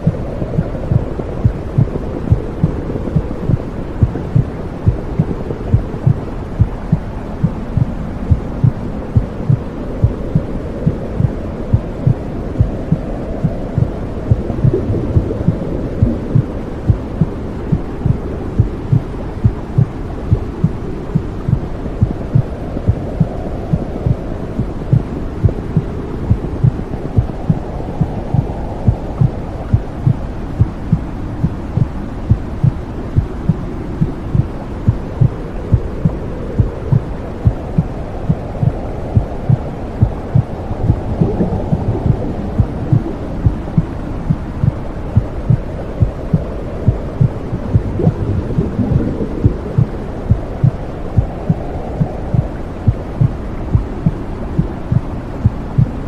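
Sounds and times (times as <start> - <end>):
heartbeat thumping: 0.0 - 56.0
low whooshing rush: 0.0 - 56.0.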